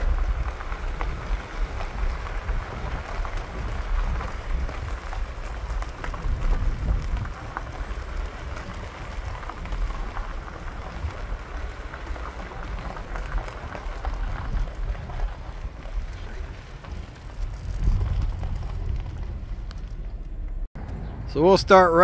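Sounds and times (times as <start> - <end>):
footsteps crunching on gravel: 0.0 - 20.6
wind buffeting microphone: 0.0 - 21.4.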